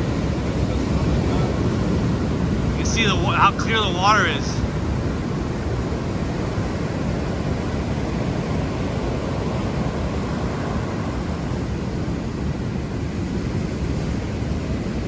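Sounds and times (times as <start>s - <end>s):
waves breaking on shore: 0.0s - 15.0s.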